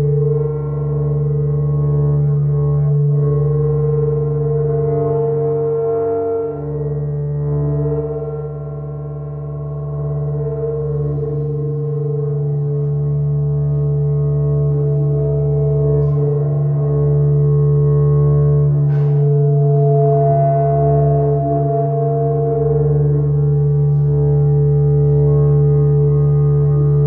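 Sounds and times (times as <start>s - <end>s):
amplified drone music: 0.0s - 27.0s.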